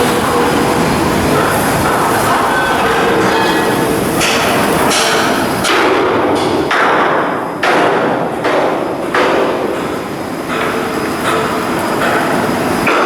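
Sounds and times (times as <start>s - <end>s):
workshop din: 0.0s - 13.0s
hammer striking steel: 1.3s - 13.0s.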